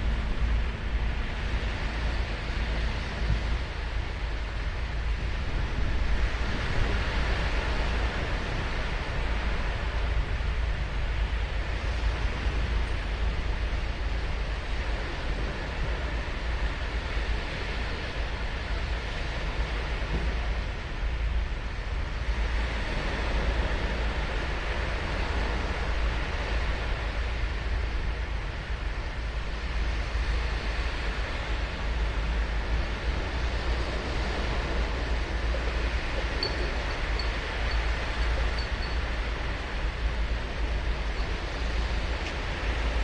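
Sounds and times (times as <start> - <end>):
ocean surf breaking on beach: 0.0 - 43.0.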